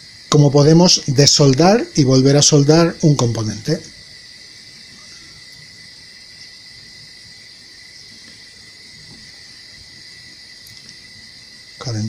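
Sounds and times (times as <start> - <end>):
faint high-pitched hiss: 0.0 - 12.0
thin constant whine: 0.0 - 12.0.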